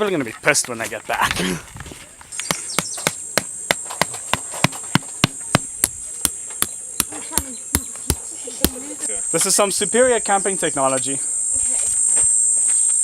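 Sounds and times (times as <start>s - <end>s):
insects droning: 2.2s - 13.0s.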